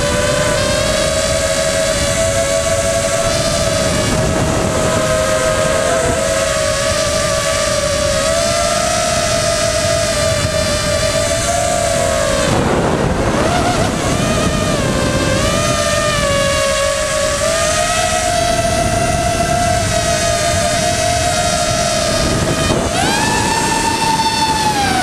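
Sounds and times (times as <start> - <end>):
drone motors whining: 0.0 - 25.0
wind noise: 0.0 - 25.0.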